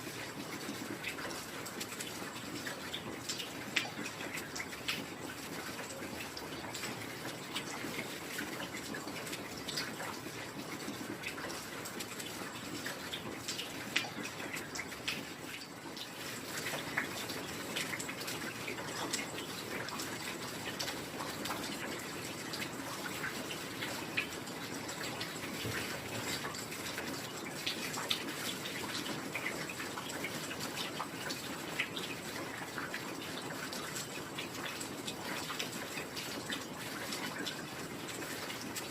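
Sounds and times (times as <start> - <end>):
drips and patters: 0.0 - 38.9.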